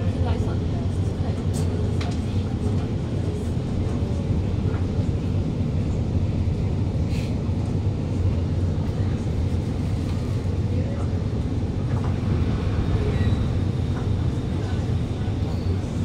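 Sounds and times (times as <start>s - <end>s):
metro carriage hum: 0.0s - 16.0s.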